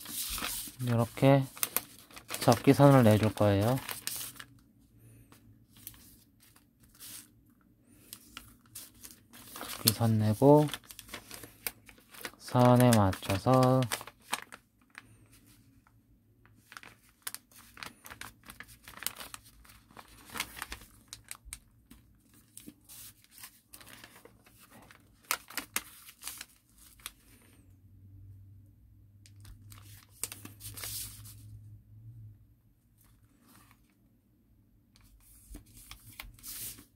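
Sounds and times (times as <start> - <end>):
paper crinkling and rustling: 0.0 - 15.8, 16.4 - 27.6, 29.3 - 31.5, 33.0 - 34.0, 34.9 - 36.9.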